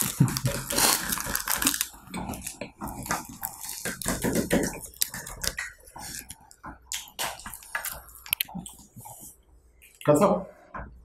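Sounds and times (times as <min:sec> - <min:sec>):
chewing and crunching biscuits: 0:00.0 - 0:10.0.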